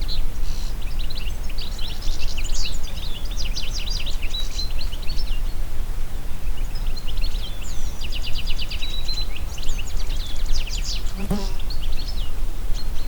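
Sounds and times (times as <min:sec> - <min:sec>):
songbirds singing: 0:00.0 - 0:05.7, 0:06.3 - 0:13.0.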